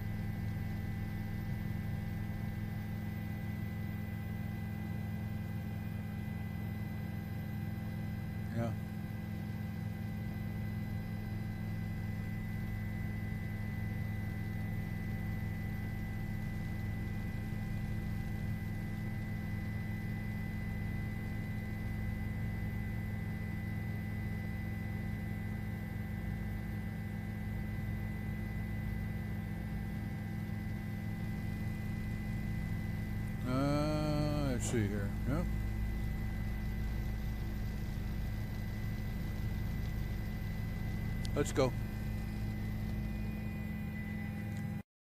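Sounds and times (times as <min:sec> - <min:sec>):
steady low hum: 0:00.0 - 0:44.8.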